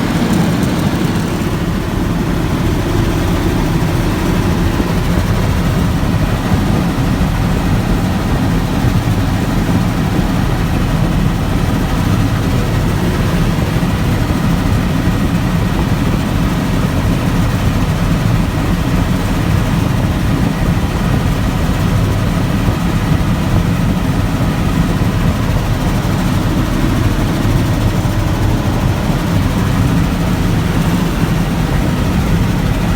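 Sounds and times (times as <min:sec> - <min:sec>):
helicopter turbine and rotor drone: 0:00.0 - 0:32.9.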